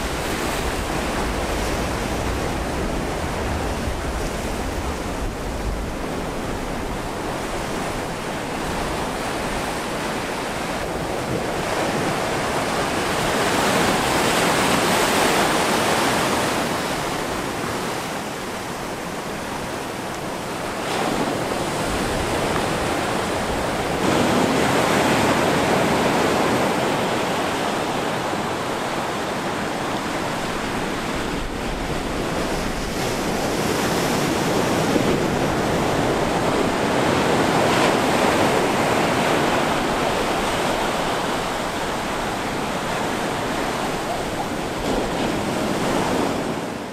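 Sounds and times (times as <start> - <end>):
ocean surf breaking: 0.0 - 46.9.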